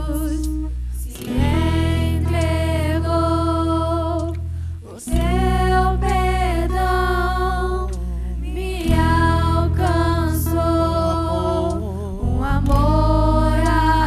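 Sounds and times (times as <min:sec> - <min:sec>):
bass and keyboard: 0:00.0 - 0:14.0
women singing long held notes: 0:00.0 - 0:14.0.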